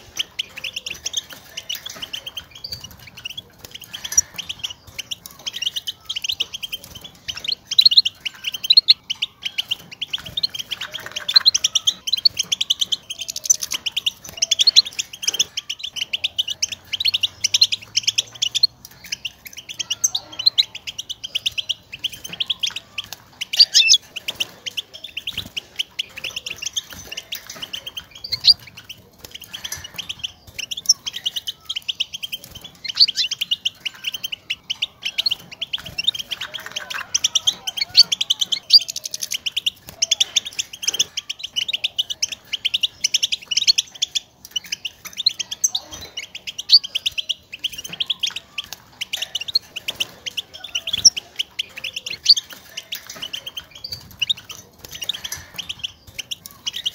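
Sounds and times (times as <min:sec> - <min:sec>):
finch twittering calls: 0:00.0 - 0:56.9.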